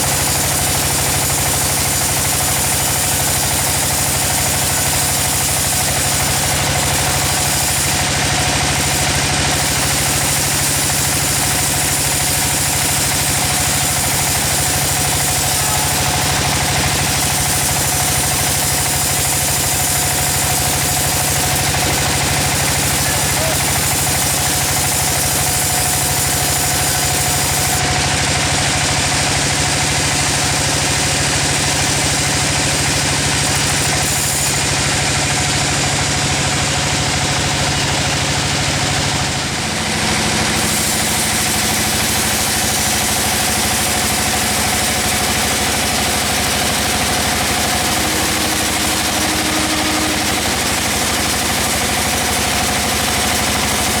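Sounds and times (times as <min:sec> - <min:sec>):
sawmill machine engine running: 0:00.0 - 0:54.0.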